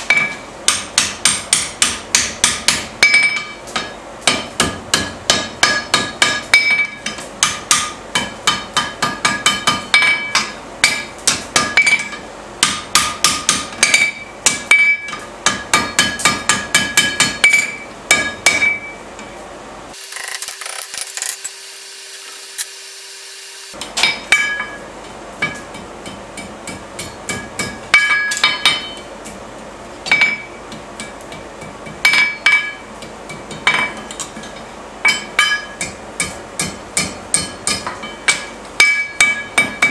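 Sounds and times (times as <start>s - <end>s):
hammer ringing on anvil: 0.1s - 19.0s, 24.0s - 29.1s, 30.1s - 34.0s, 35.0s - 39.9s.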